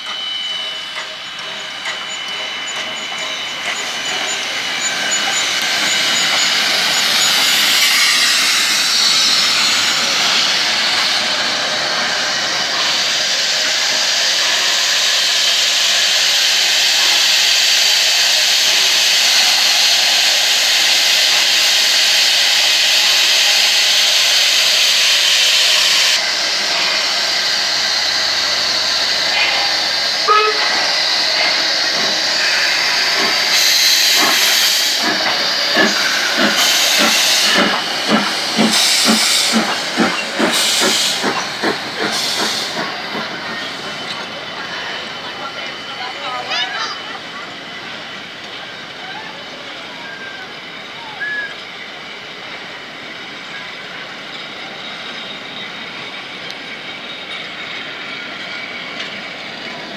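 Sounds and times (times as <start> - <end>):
steam hissing: 0.0 - 59.9.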